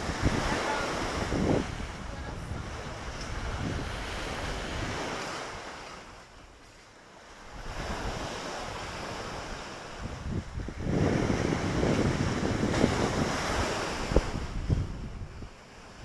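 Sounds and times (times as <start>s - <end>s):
wind buffeting microphone: 0.0s - 6.2s, 7.5s - 16.0s
waves washing on shore: 0.0s - 16.0s.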